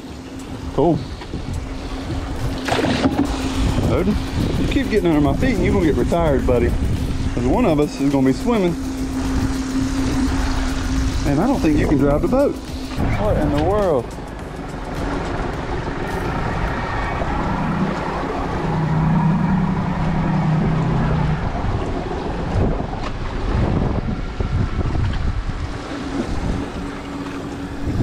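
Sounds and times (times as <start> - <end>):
low steady hum: 0.0 - 28.0
water sloshing around boat: 0.0 - 28.0
wind buffeting microphone: 0.0 - 28.0.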